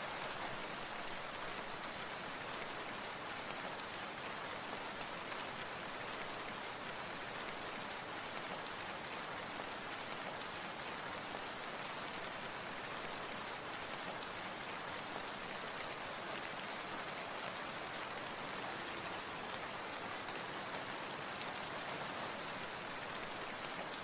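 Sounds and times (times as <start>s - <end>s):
steady rain on a surface: 0.0s - 24.0s.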